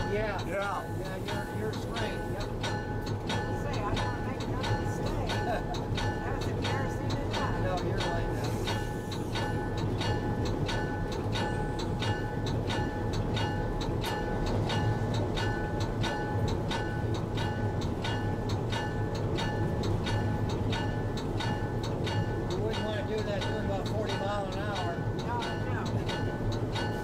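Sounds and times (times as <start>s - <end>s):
diesel locomotive engine hum: 0.0s - 27.0s
metallic ringing tick: 0.0s - 27.0s.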